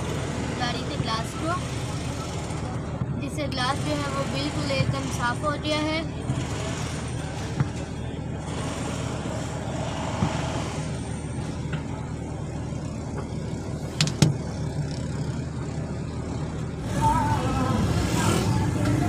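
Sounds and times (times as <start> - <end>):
vehicle rumble inside car: 0.0 - 19.0.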